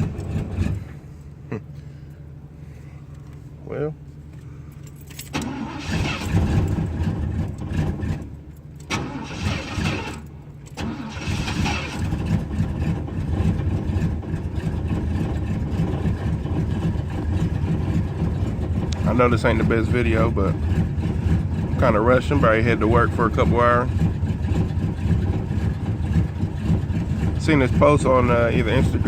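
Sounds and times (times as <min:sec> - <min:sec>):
car engine cranking and starting: 0:00.0 - 0:03.4, 0:04.2 - 0:29.0.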